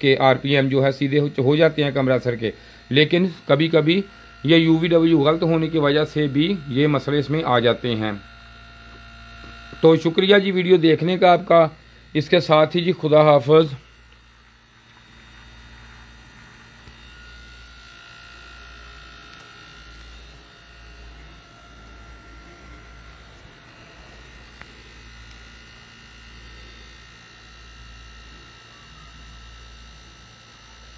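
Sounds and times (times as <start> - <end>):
compressor and fan hum: 0.0 - 30.9
faint high whine: 0.0 - 30.9.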